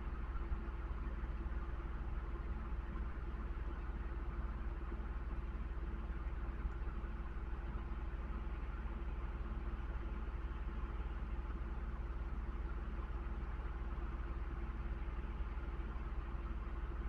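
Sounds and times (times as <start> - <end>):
machine hum with deep rumble: 0.0 - 17.0.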